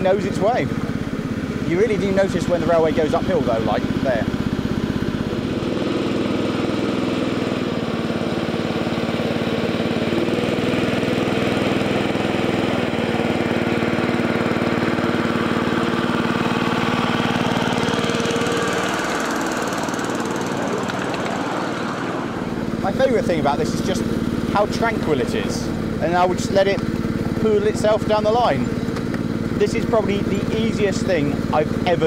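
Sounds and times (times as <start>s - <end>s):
petrol engine running under load: 0.0s - 32.0s.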